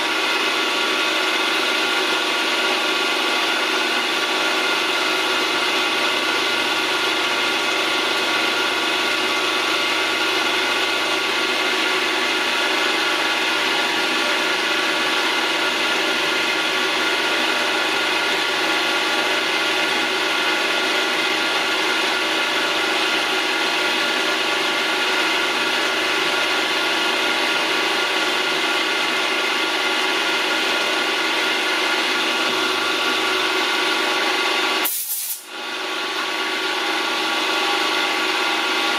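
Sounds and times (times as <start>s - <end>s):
milling machine running: 0.0s - 34.8s.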